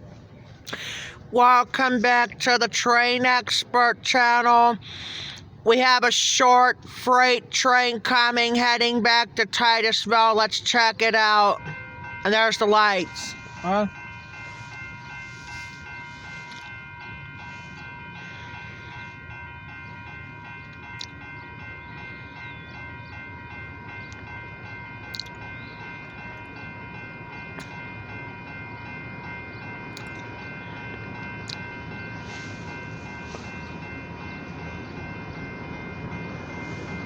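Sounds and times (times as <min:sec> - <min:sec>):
crossing bell ringing: 0:00.0 - 0:37.0.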